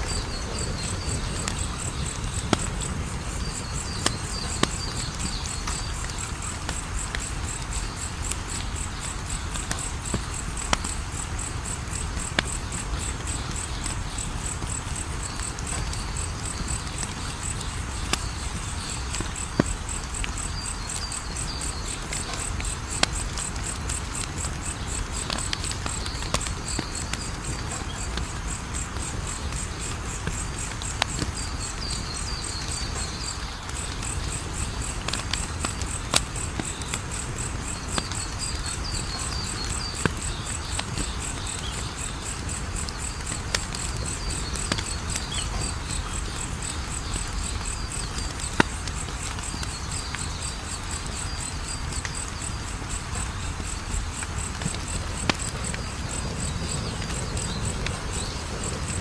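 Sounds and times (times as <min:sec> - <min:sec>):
insect chirping: 0:00.0 - 0:59.0
wood fire crackling and popping: 0:00.0 - 0:59.0.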